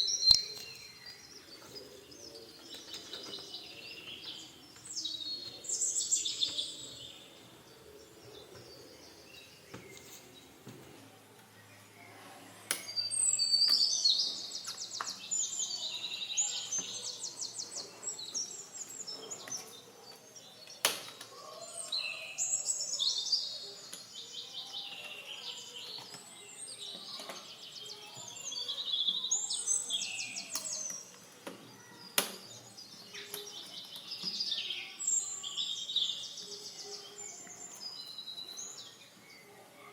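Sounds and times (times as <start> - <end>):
songbirds singing trilled phrases: 0.0 - 10.6, 11.4 - 39.7.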